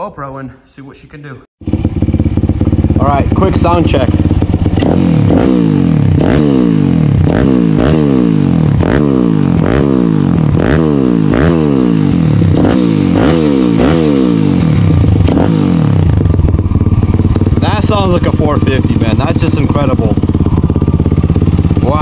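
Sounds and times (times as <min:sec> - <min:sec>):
motorbike engine revving: 0:01.6 - 0:22.0.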